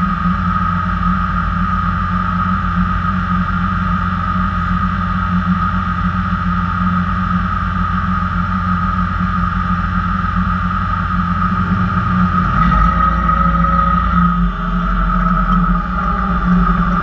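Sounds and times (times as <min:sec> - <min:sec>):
steady high whine: 0:00.0 - 0:17.0
truck engine idling: 0:00.0 - 0:17.0.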